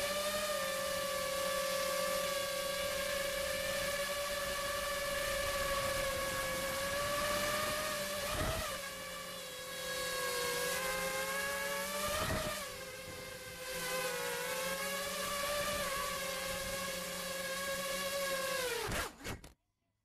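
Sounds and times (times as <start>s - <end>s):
quadcopter motors whining: 0.0s - 19.6s.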